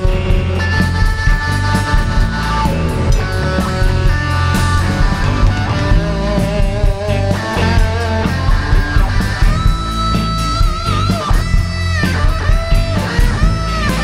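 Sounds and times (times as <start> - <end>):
bass guitar: 0.0 - 14.0
drum beat: 0.0 - 14.0
lead electric guitar: 0.0 - 14.0.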